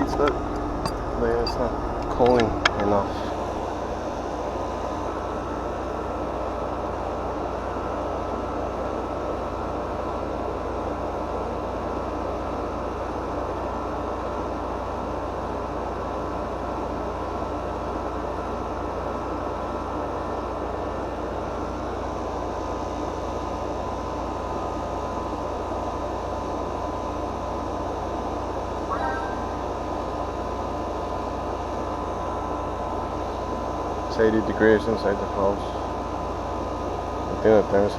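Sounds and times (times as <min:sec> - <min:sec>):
air conditioning unit drone: 0:00.0 - 0:37.9.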